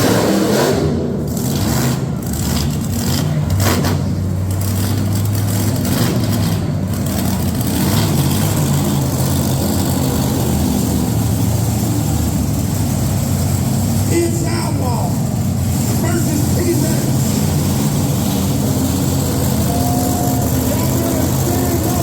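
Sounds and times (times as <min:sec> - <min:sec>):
monster truck engines running: 0:00.0 - 0:22.0.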